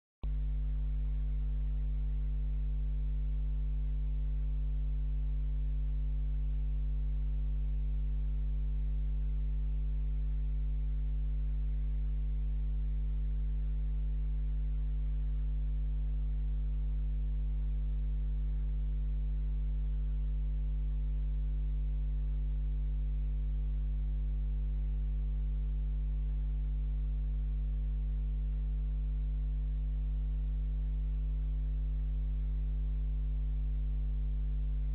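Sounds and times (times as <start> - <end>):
low electrical hum: 0.2 - 34.9.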